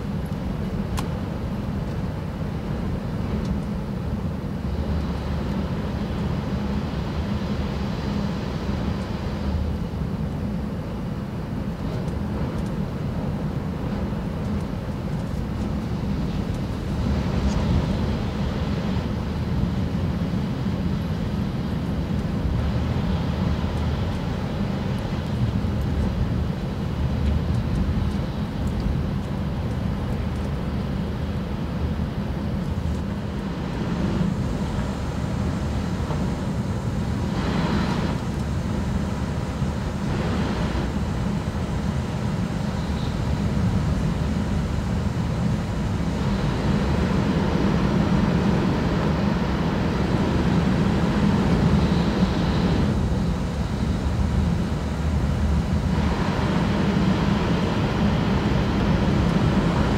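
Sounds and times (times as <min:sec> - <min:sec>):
high-speed train rumble and rush: 0:00.0 - 0:59.9.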